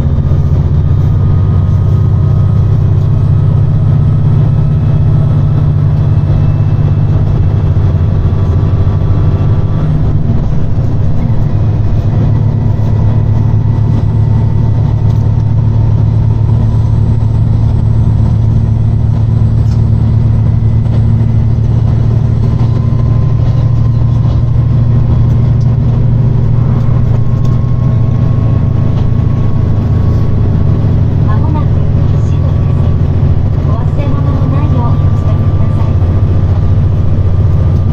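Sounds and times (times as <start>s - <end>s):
railcar diesel engines droning: 0.0s - 37.9s.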